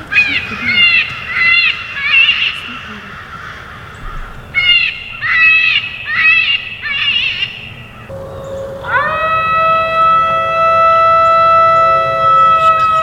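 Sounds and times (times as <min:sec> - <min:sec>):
harsh cawing calls: 0:00.0 - 0:13.0.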